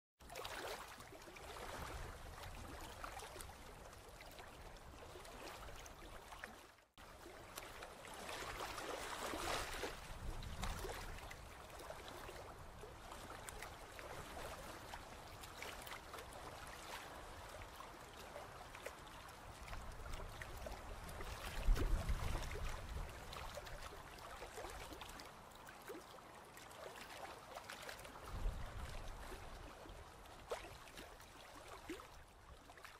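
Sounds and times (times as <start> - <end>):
river water flowing: 0.2 - 32.9.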